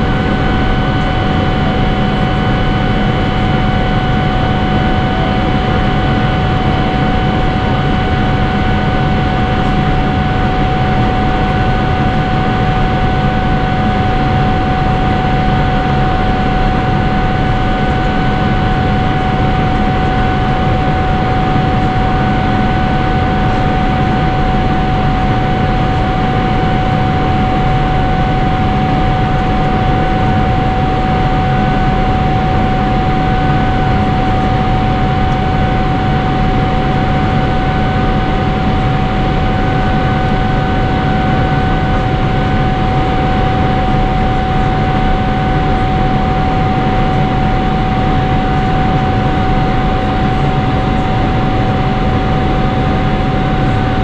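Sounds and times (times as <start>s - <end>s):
jet engine cabin noise with whine: 0.0s - 54.0s.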